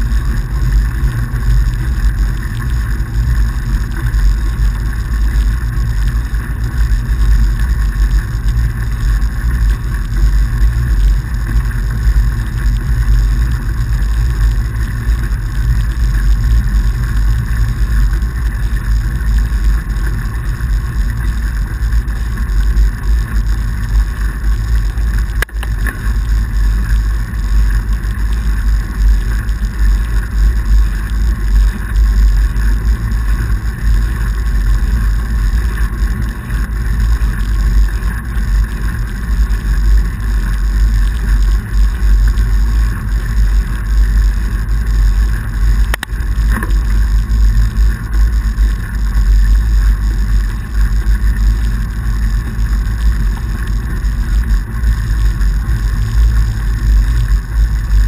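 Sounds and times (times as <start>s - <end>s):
bike rolling over packed snow: 0.0s - 58.0s.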